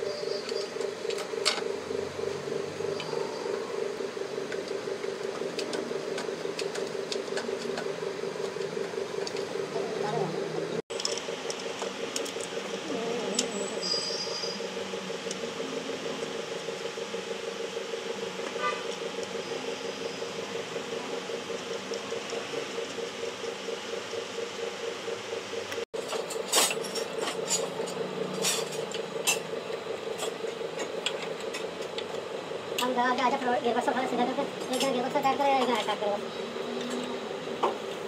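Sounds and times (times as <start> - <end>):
pulsing workshop machine hum: 0.0 - 38.0.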